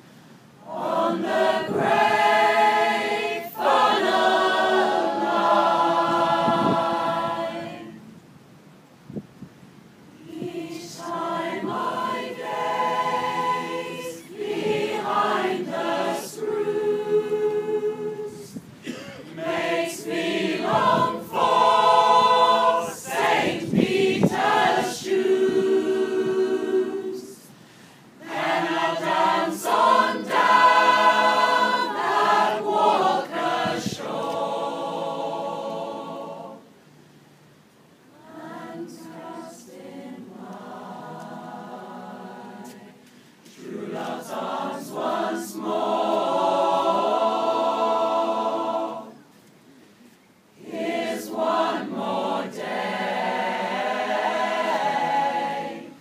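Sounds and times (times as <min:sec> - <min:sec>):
mixed choir singing unaccompanied: 0:00.6 - 0:08.2, 0:10.1 - 0:36.8, 0:38.1 - 0:49.4, 0:50.6 - 0:56.0.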